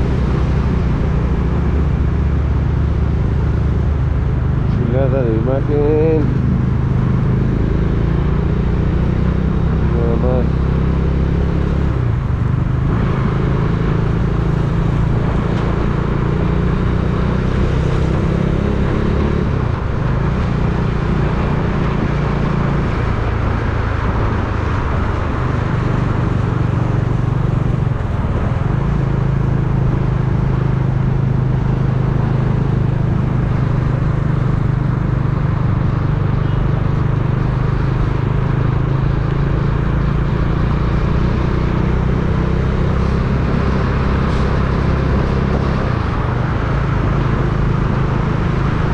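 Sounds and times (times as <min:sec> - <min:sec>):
road and wind noise: 0:00.0 - 0:48.9
vehicle engine hum: 0:00.0 - 0:48.9.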